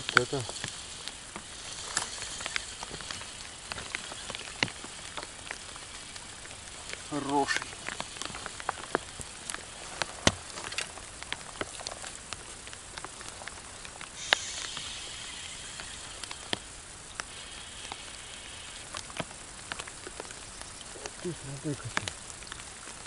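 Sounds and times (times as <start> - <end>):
raindrops tapping on cover: 0.0 - 23.0
steady rain hiss: 0.0 - 23.0.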